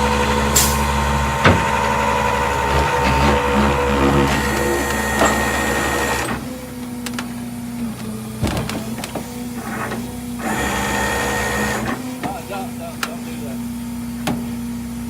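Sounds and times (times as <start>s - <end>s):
small motor running: 1.3s - 13.7s.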